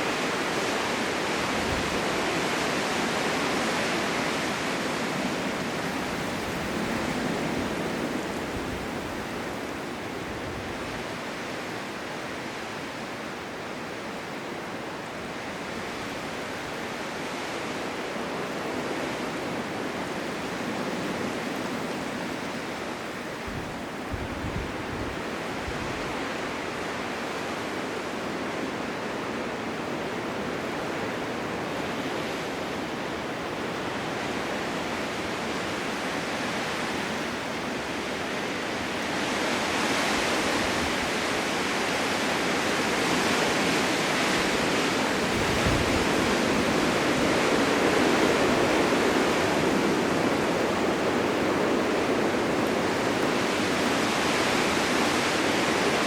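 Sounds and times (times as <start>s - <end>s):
blizzard wind hissing: 0.0s - 56.0s.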